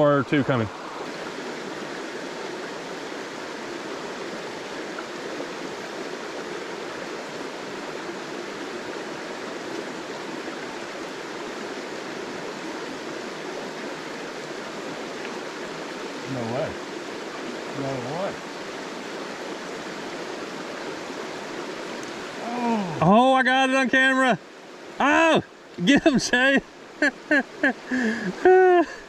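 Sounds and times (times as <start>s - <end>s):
creek flowing over stones: 0.0s - 29.0s.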